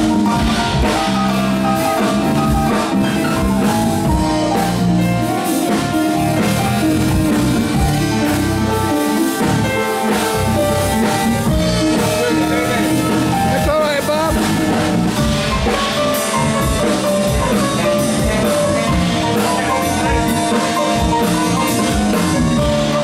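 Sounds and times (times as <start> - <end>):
live funk band playing: 0.0 - 23.0.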